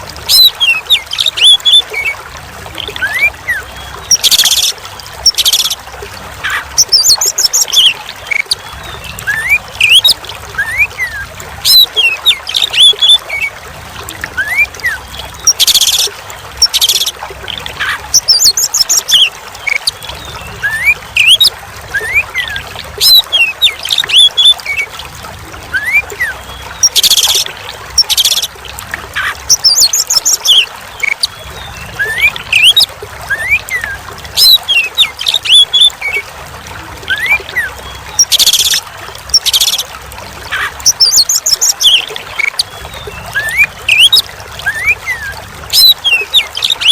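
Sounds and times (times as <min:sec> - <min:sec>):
trickling water: 0:00.0 - 0:46.9.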